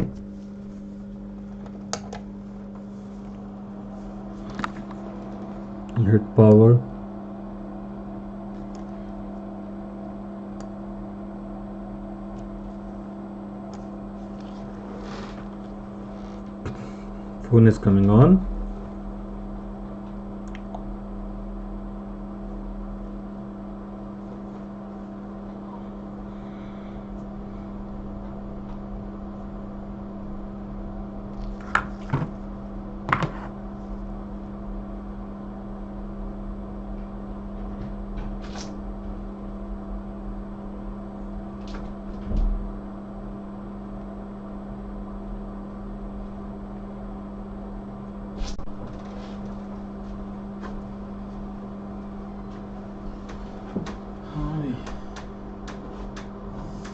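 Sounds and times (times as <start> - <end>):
electrical hum of equipment: 0.0 - 56.9.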